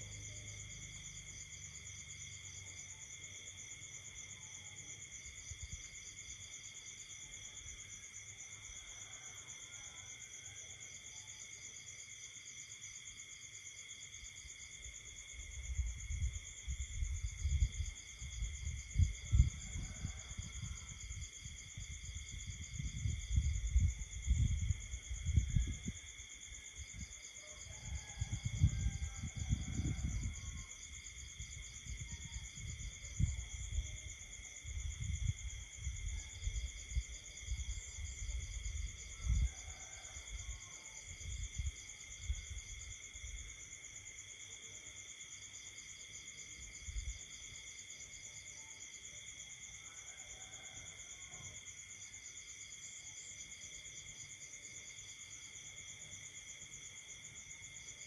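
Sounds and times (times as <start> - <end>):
crickets and insects trilling: 0.0 - 58.0.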